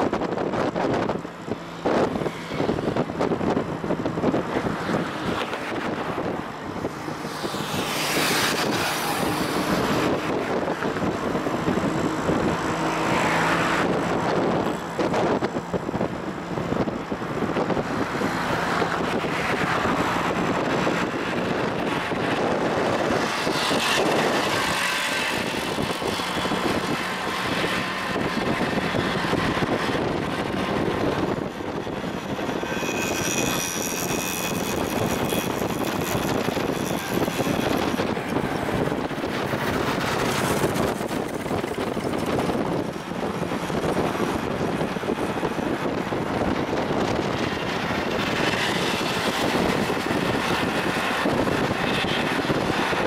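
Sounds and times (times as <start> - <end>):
vehicle engine hum: 0.0 - 53.0
vehicles passing by: 0.0 - 53.0
wind and tyre noise: 0.0 - 53.0.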